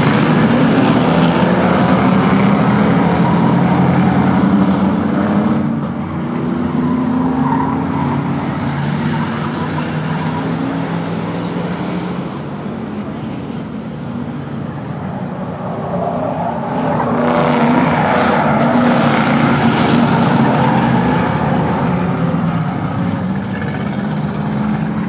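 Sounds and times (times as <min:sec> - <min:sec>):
race car engines: 0:00.0 - 0:25.0
vehicles passing close by: 0:00.0 - 0:25.0.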